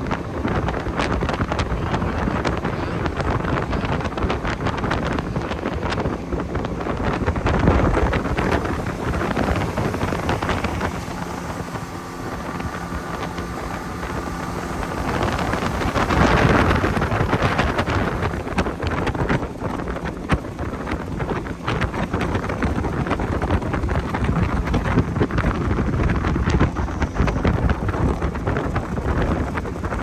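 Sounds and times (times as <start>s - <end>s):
outboard engine drone: 0.0s - 30.0s
wind buffeting microphone: 0.0s - 30.0s.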